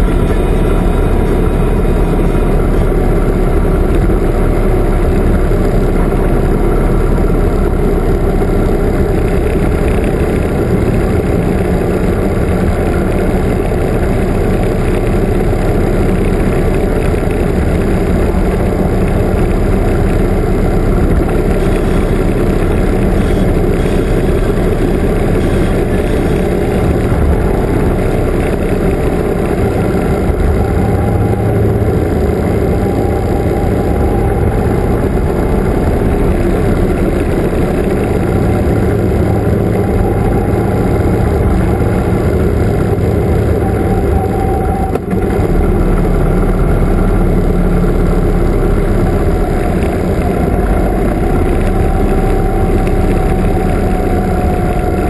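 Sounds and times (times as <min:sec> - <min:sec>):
motorcycle engine running: 0:00.0 - 0:55.0
motorcycles following: 0:00.0 - 0:55.0
road noise: 0:00.0 - 0:55.0
wind noise: 0:00.0 - 0:55.0.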